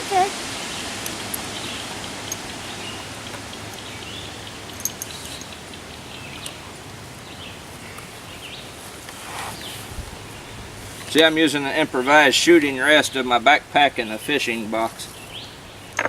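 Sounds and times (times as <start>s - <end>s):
breeze hissing: 0.0s - 15.9s.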